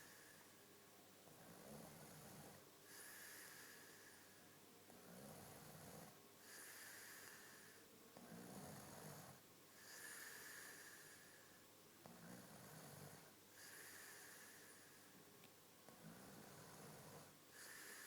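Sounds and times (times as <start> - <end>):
man snoring faintly: 1.3 - 15.0, 15.9 - 18.0.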